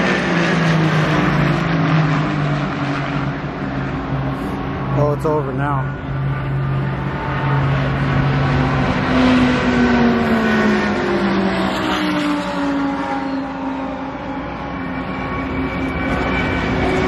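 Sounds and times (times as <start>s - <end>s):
race car passing by: 0.0s - 17.0s.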